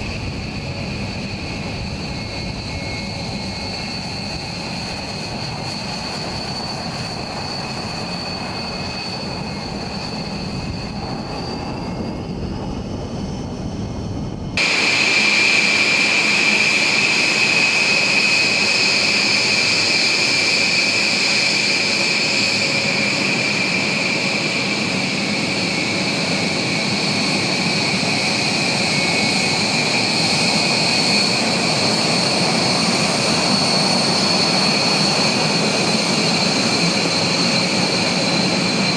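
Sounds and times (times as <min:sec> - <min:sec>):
jet engines roaring and whining: 0:00.0 - 0:38.9.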